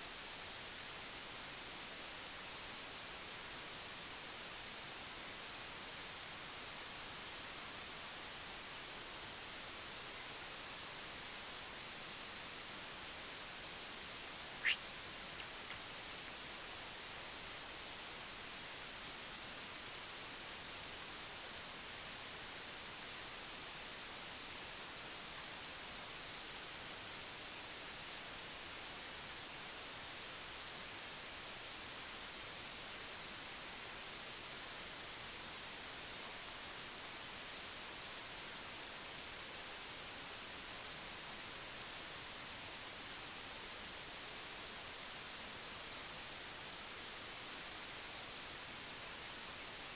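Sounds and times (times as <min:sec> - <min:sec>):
steady static hiss: 0:00.0 - 0:49.9.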